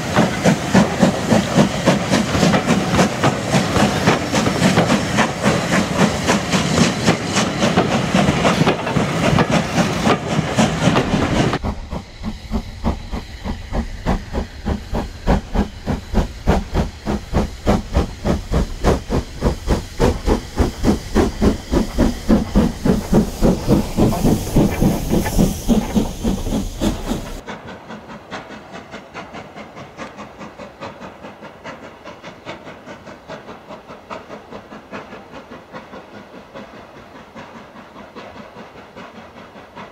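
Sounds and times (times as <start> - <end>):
distant steam train puffing: 0.0 - 39.9
steam hiss: 0.0 - 39.9
steam locomotive chuffing: 0.0 - 39.9
train wheels clicking over rail joints: 0.0 - 39.9.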